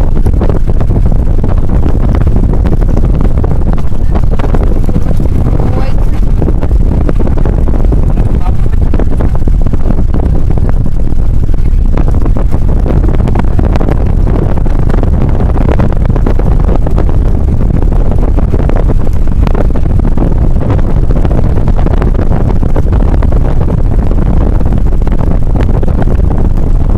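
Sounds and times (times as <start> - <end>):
road and engine rumble: 0.0 - 26.9.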